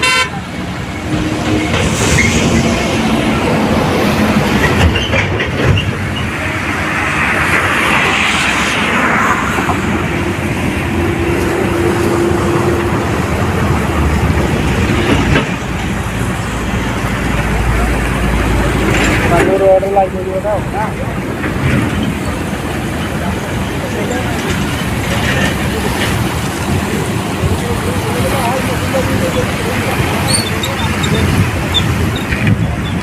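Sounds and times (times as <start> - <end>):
vehicle moving on road: 0.0 - 33.0.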